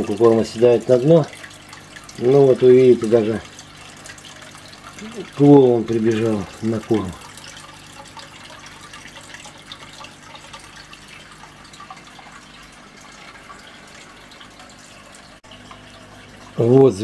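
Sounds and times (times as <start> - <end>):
water trickling and bubbling: 0.0 - 17.0.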